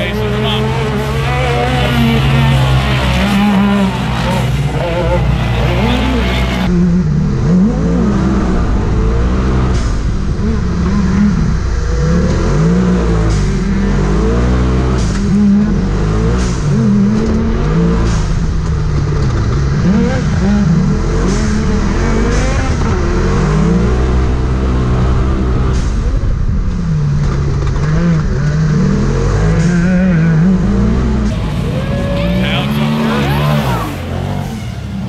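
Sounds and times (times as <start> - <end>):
engines racing revving: 0.0 - 35.0.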